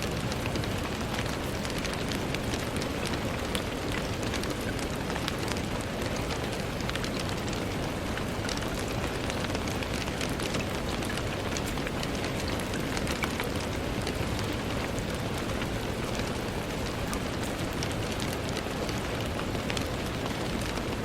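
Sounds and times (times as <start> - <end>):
rain on window: 0.0 - 21.0.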